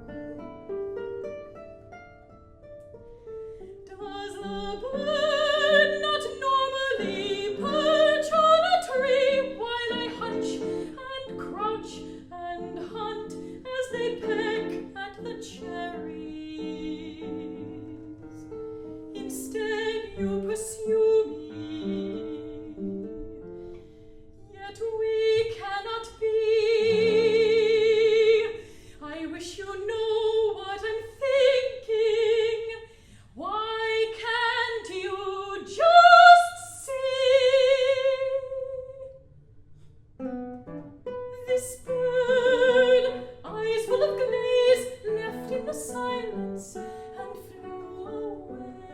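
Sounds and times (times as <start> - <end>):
plucked guitar: 0.0 - 28.8, 34.2 - 48.9
woman singing with vibrato: 3.8 - 18.2, 19.2 - 23.4, 24.5 - 39.2, 41.3 - 48.9.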